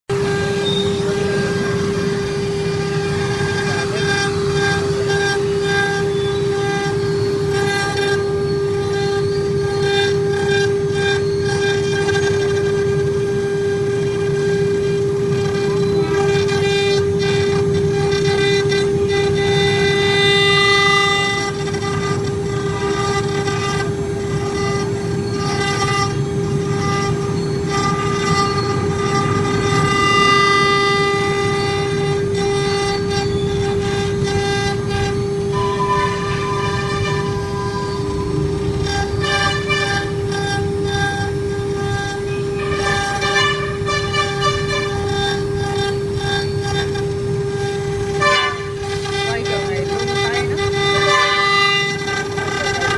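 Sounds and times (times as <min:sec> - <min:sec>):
rough cutting noise: 0:00.1 - 0:52.9
router spindle whine: 0:00.1 - 0:52.9.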